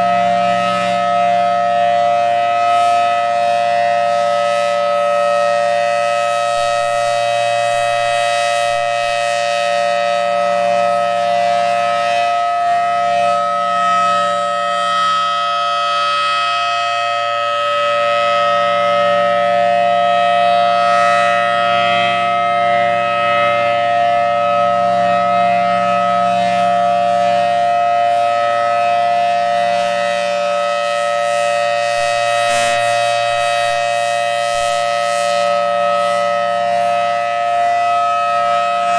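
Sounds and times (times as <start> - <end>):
warning siren steady tones: 0.0 - 38.9.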